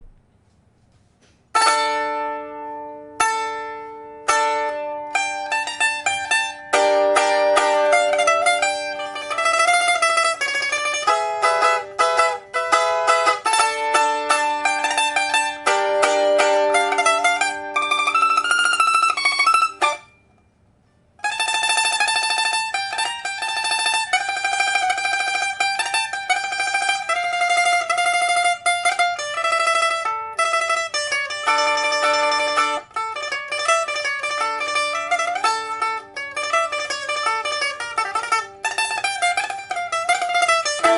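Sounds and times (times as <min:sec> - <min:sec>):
plucked lute melody with tremolo: 0:01.5 - 0:20.4, 0:21.2 - 0:40.9.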